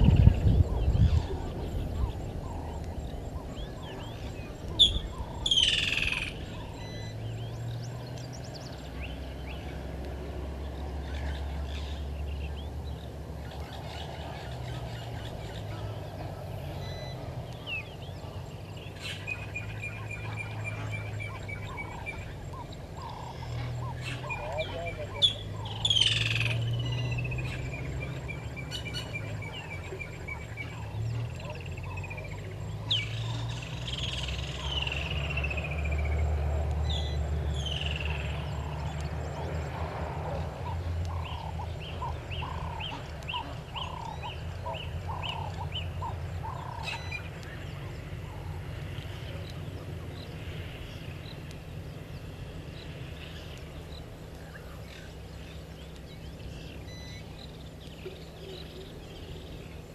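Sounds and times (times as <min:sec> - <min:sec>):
birds whistling: 0:00.0 - 0:09.8, 0:10.7 - 0:48.6, 0:49.2 - 0:59.9
steady low rumble: 0:00.0 - 0:59.9.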